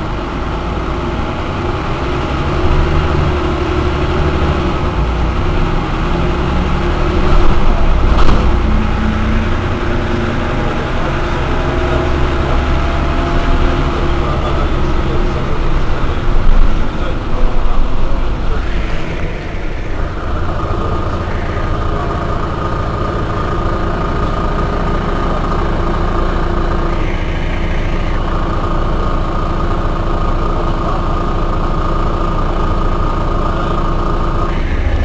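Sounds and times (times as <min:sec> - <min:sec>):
steady high whine: 0:00.0 - 0:31.8, 0:33.3 - 0:35.0
diesel bus engine idling: 0:00.0 - 0:35.0.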